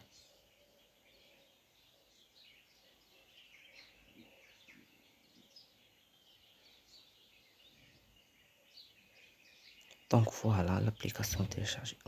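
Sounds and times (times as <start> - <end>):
faint background hiss: 0.0 - 12.0
faint high chirps: 0.0 - 12.0.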